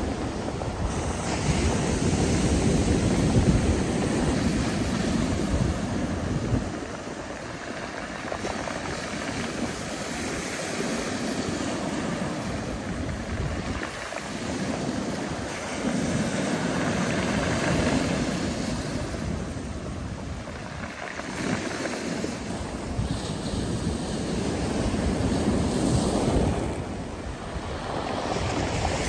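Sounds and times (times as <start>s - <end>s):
surf washing over pebble beach: 0.0s - 29.0s.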